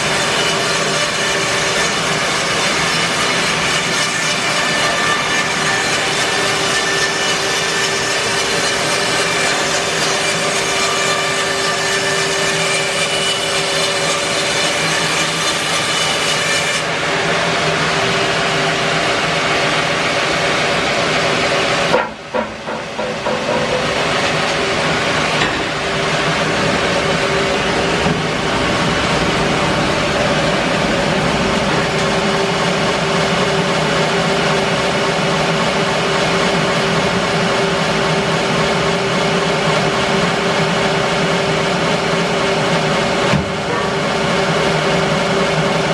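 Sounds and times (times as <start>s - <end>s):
bandsaw mill sawing: 0.0s - 45.9s.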